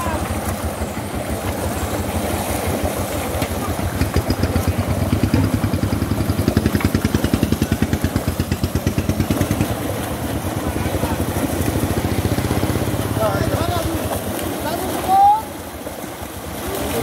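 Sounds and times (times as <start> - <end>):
fish splashing in net: 0.0 - 17.0.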